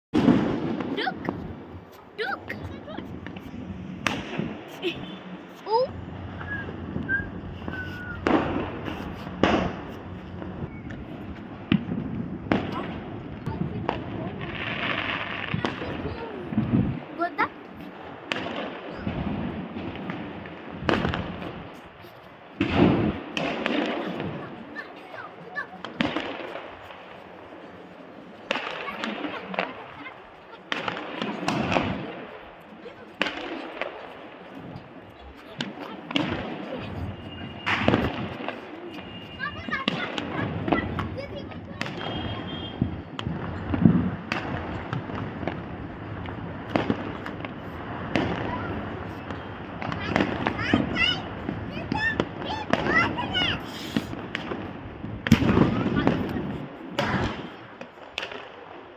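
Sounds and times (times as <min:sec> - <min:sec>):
fireworks booms with low rumble: 0:00.2 - 0:58.9.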